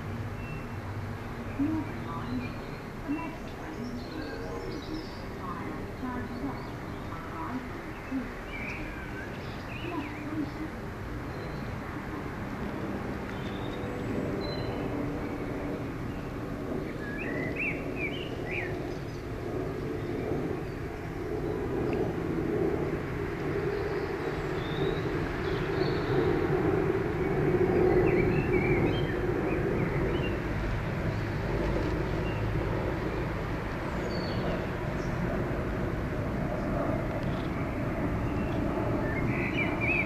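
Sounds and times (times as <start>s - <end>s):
distant underground train rumble: 0.0s - 40.0s.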